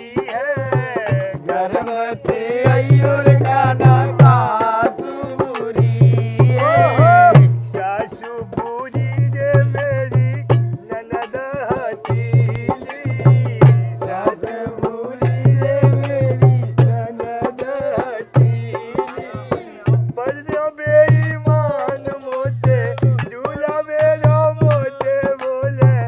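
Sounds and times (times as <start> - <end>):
person singing: 0.0 - 9.9, 10.8 - 25.9.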